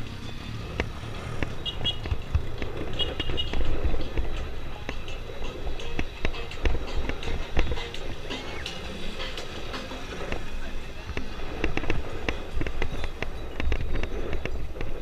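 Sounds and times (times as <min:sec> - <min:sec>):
motorcycle engine rumble: 0:00.0 - 0:15.0
wind noise on microphone: 0:00.0 - 0:15.0.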